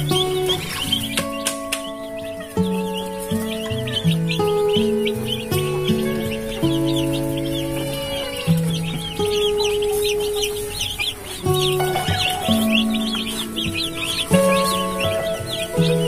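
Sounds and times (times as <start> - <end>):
background music with held notes: 0.0 - 16.0
chicks peeping: 0.0 - 16.0.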